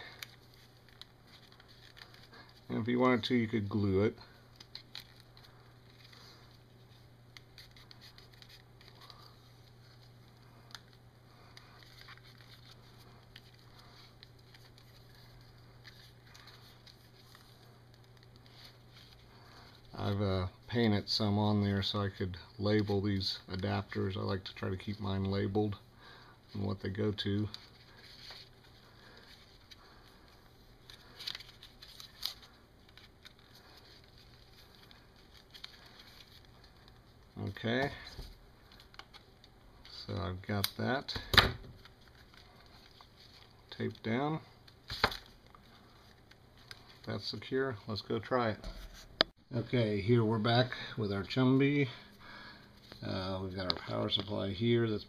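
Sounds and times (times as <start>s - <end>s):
tape rustling: 0.0s - 49.4s
steady low hum: 0.0s - 55.0s.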